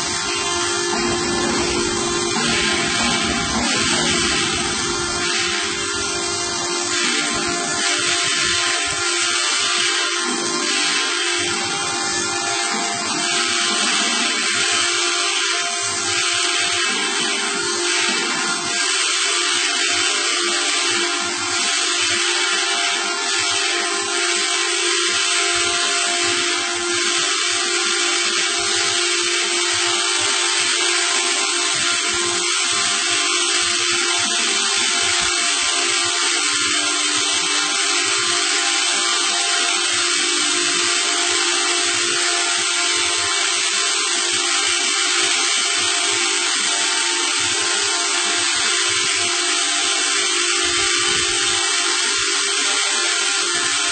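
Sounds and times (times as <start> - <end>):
constant tones: 0.0 - 53.8
machine whirring: 0.0 - 53.9.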